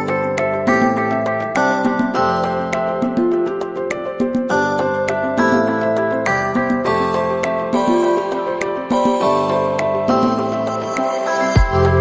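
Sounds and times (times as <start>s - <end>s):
instrumental music with steady beat: 0.0s - 12.0s.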